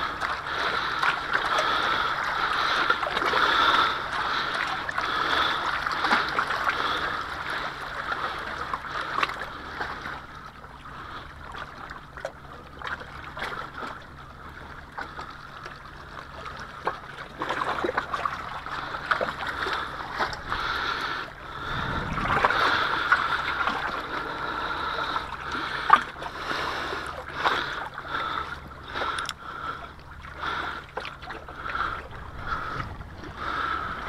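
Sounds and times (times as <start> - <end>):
small waves lapping on rocks: 0.0 - 34.0.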